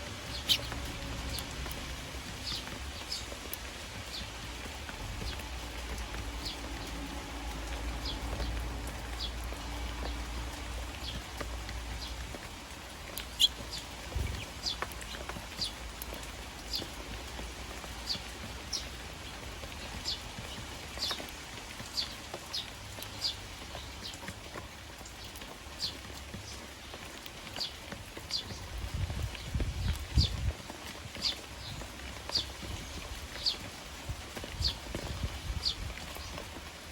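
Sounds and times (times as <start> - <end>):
sparrows chirping: 0.0 - 36.4
rain pattering: 0.0 - 36.9.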